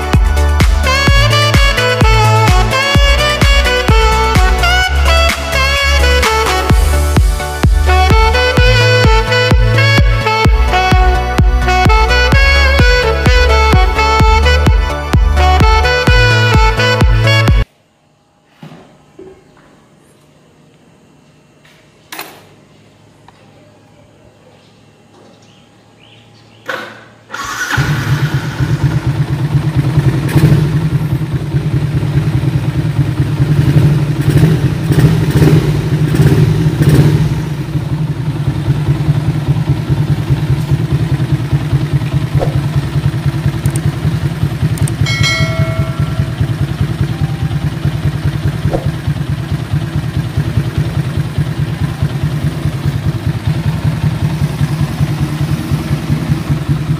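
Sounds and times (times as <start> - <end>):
motorcycle engine starting and idling: 0.0 - 17.6, 26.1 - 56.9
motorcycle engine blipped: 0.0 - 17.7, 25.1 - 56.9.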